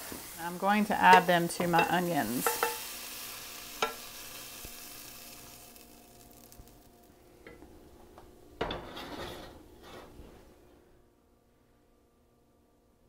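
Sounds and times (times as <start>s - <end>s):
faint sizzle: 0.0s - 11.6s.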